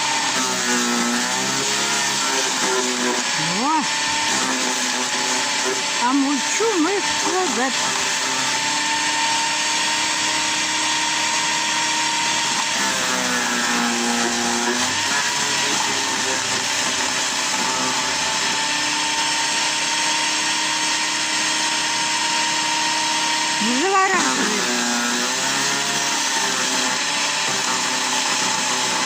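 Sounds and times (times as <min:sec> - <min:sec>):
garden shredder motor whining: 0:00.0 - 0:29.0.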